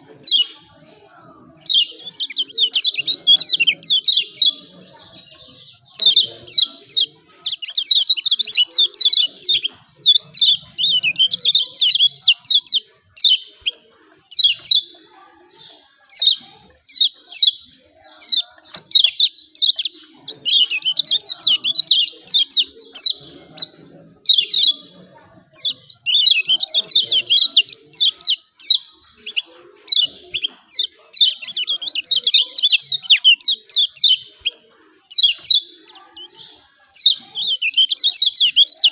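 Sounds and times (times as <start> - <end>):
bird chirping and twittering: 0.0 - 38.9.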